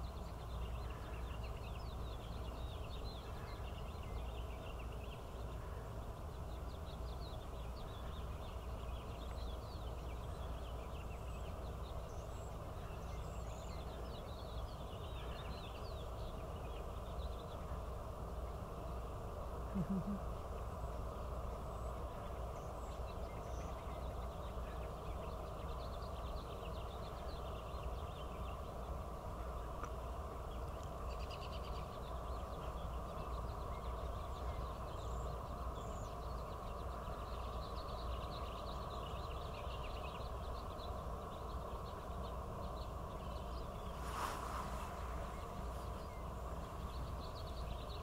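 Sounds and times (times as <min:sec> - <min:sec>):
faint bird chirping: 0:00.0 - 0:48.0
low background rumble: 0:00.0 - 0:48.0.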